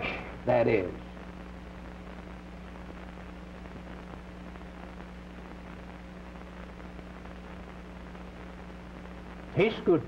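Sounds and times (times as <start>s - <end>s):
film soundtrack hiss and hum: 0.0s - 10.0s.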